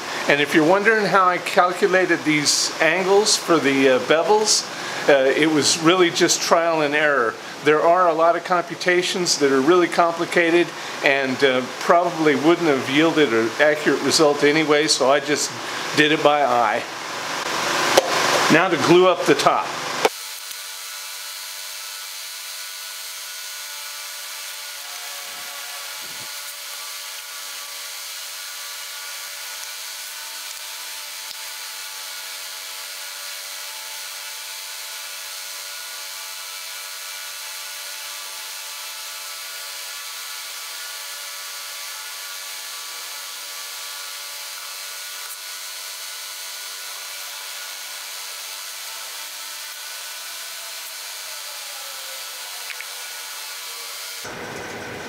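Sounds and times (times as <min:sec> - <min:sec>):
electric fan whirring: 0:00.0 - 0:55.0.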